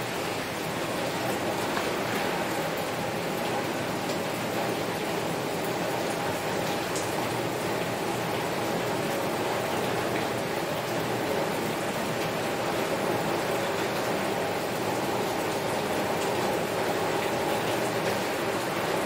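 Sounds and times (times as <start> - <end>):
heavy rain on a window: 0.0 - 19.0.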